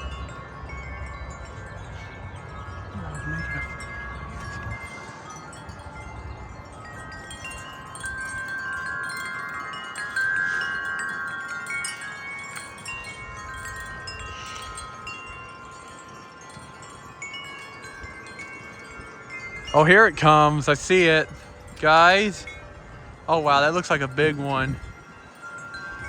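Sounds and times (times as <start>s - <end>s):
low wind rumble: 0.0s - 26.0s
metal wind chimes ringing: 0.0s - 26.0s.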